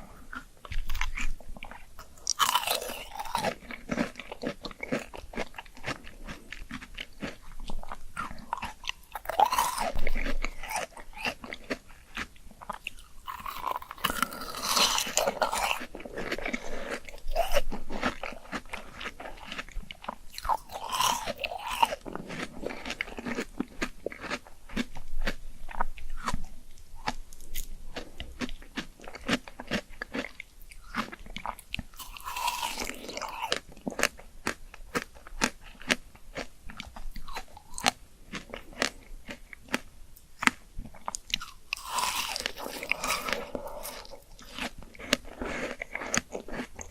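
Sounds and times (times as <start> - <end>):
person chewing crisp fruit: 0.0 - 46.9.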